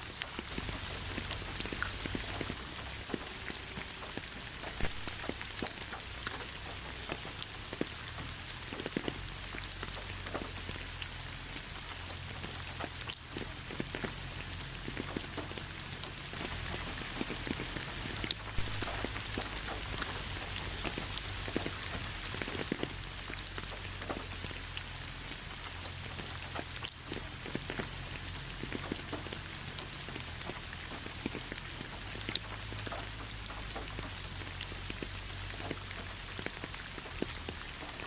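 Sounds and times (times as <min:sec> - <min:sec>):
low steady rumble: 0:00.0 - 0:38.0
rain drops ticking: 0:00.0 - 0:38.0.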